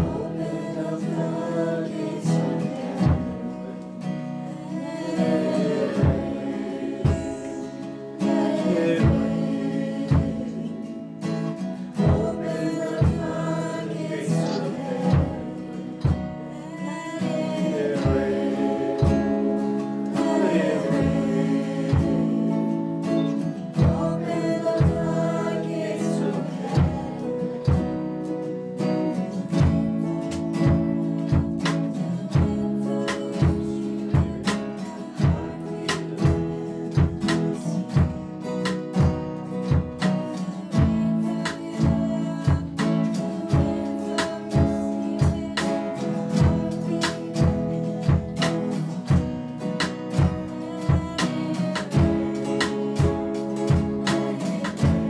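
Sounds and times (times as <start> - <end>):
girl singing: 0.0 - 3.8, 4.4 - 28.2, 29.4 - 38.6, 40.2 - 48.4, 50.1 - 55.0
drum kit beat: 0.0 - 55.0
electric guitar: 0.0 - 55.0
strummed acoustic guitar: 0.0 - 55.0.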